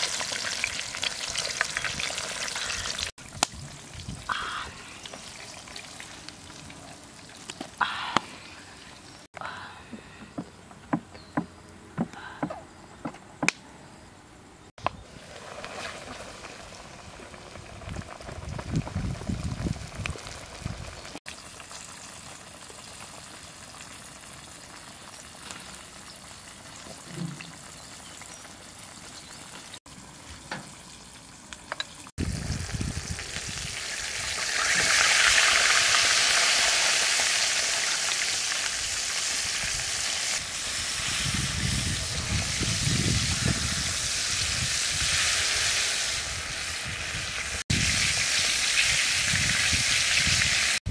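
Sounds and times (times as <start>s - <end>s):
fish deep-frying in oil: 0.0s - 7.6s, 15.1s - 50.9s.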